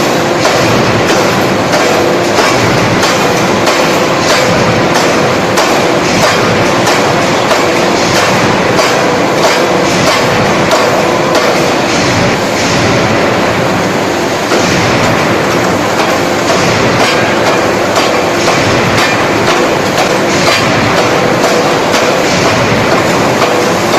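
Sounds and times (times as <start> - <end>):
forging hammer clatter and blows: 0.0 - 23.9.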